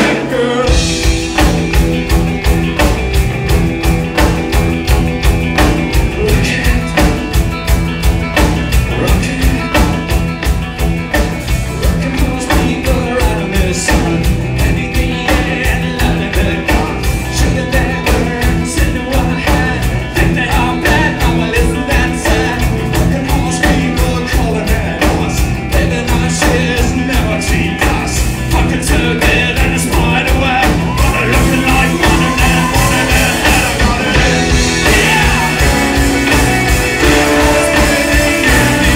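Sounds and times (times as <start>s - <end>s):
person singing: 0.0s - 1.5s, 5.9s - 7.4s, 8.7s - 10.1s, 11.7s - 38.9s
drum kit driving beat: 0.0s - 38.9s
rock band playing live: 0.0s - 38.9s.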